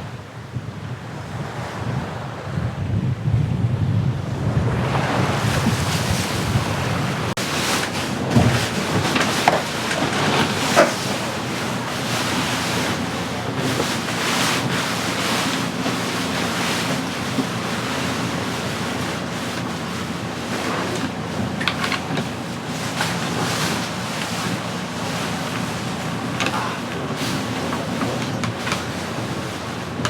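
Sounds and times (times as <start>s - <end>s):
water rushing along a hull: 0.0s - 30.0s
wind buffeting microphone: 0.0s - 30.0s.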